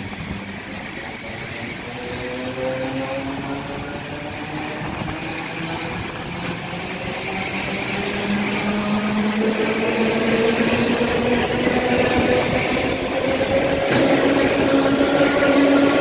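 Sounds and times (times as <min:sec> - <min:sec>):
electric train drive whining hum: 0:00.0 - 0:16.0
rumble of train cars: 0:00.0 - 0:16.0.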